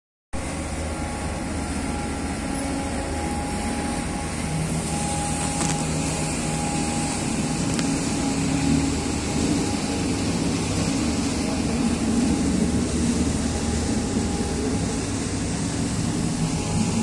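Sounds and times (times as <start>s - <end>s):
deeper boat engine note: 0.4s - 17.0s
motorboat engines droning: 0.4s - 17.0s.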